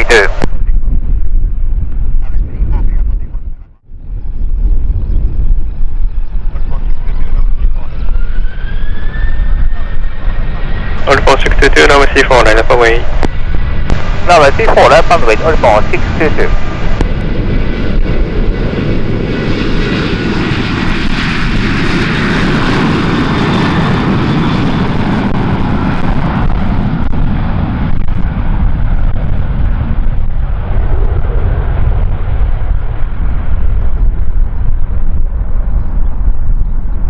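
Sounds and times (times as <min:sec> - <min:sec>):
jet airliner taking off: 0:00.0 - 0:37.0
wind rumbling on microphone: 0:00.0 - 0:37.0.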